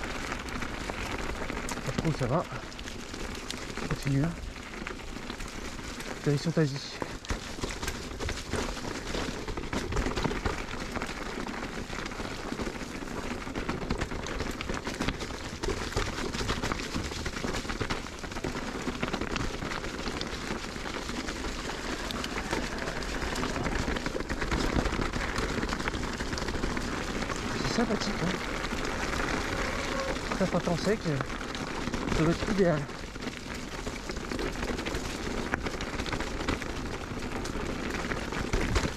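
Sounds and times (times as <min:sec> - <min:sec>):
bike tyres on stony trail: 0:00.0 - 0:38.9.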